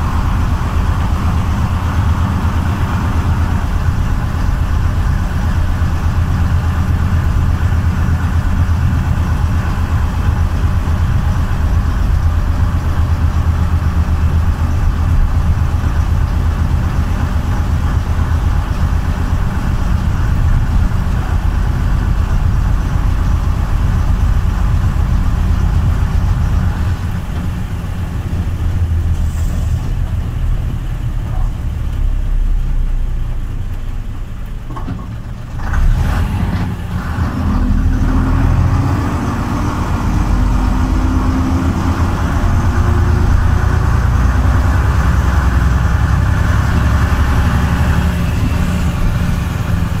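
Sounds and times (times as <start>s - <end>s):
vintage vehicle engine: 0.0s - 50.0s.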